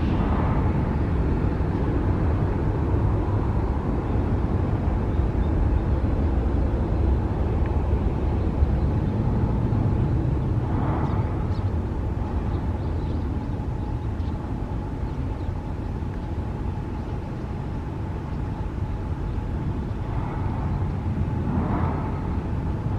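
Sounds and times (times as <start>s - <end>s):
jet engine rumble: 0.0s - 22.9s.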